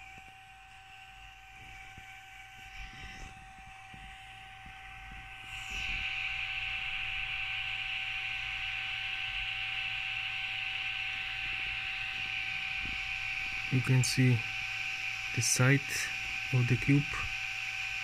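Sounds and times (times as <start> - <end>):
fan whining with hiss: 0.0 - 18.0.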